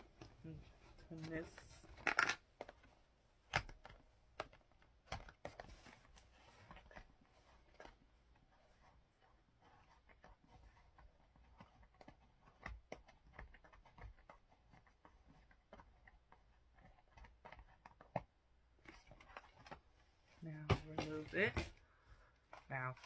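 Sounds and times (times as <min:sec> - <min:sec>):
hands handling toy and packaging: 0:00.0 - 0:23.0.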